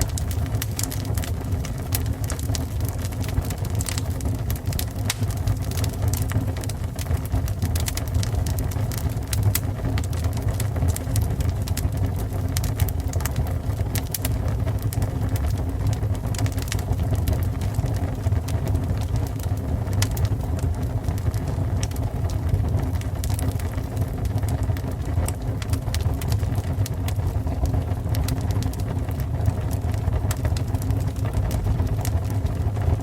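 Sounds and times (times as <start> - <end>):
fire crackling and popping: 0.0 - 33.0
fire roaring: 0.0 - 33.0.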